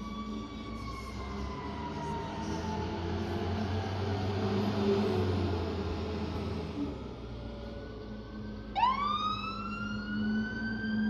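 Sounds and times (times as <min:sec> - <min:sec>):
passing traffic: 0:00.0 - 0:11.0
vehicle siren wailing: 0:00.0 - 0:11.0.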